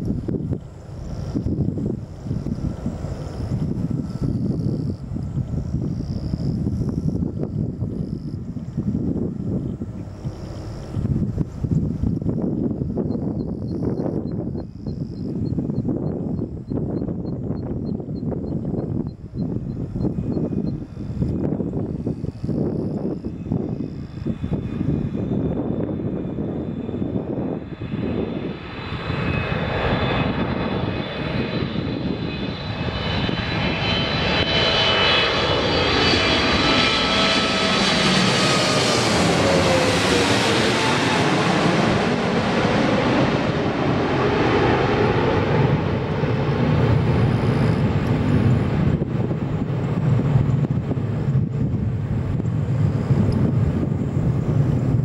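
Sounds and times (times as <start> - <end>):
jet engines whining overhead: 0.0 - 55.0
jet low rumble: 0.0 - 55.0.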